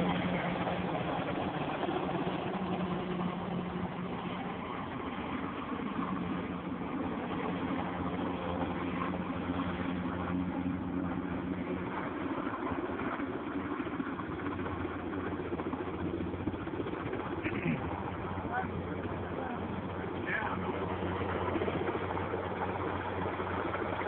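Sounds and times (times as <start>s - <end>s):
helicopter turbine and rotor humming: 0.0s - 24.0s.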